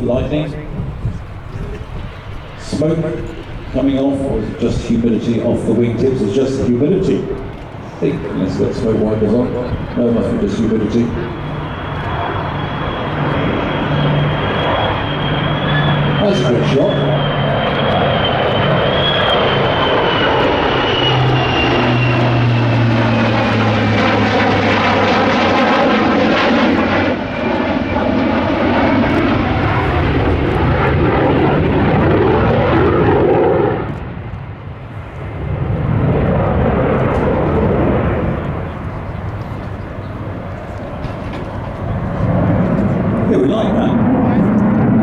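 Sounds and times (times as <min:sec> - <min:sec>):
aircraft engine drone: 0:00.0 - 0:45.0
high engine whine: 0:00.0 - 0:45.0.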